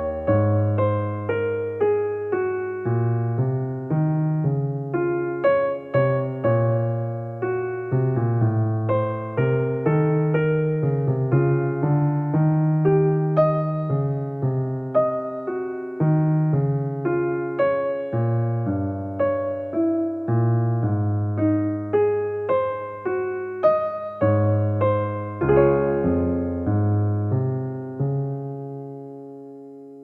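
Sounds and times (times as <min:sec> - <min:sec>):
gentle electric piano music: 0:00.0 - 0:30.0.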